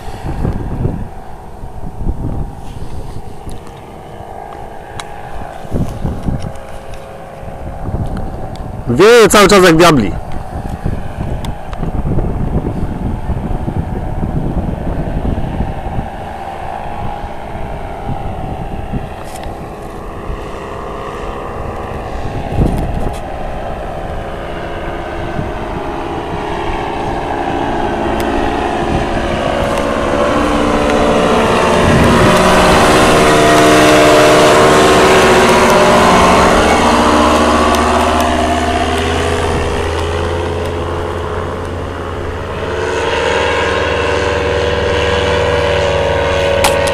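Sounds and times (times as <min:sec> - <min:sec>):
paramotor engine droning: 0:00.0 - 0:46.9
wind buffeting microphone: 0:00.0 - 0:46.9.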